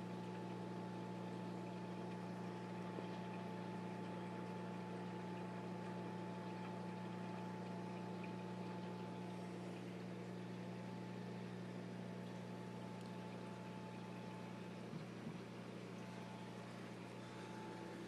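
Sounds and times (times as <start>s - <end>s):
aquarium pumps humming: 0.0s - 18.0s.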